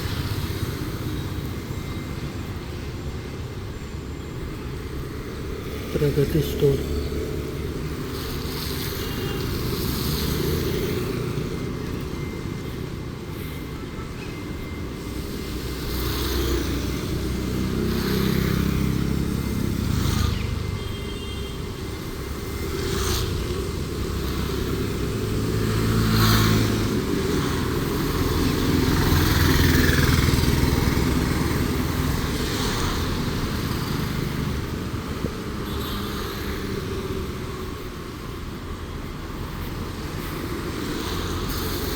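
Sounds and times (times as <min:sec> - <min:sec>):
cars passing: 0:00.0 - 0:41.9
motorcycles passing: 0:00.0 - 0:41.9
steady traffic hum: 0:00.0 - 0:41.9.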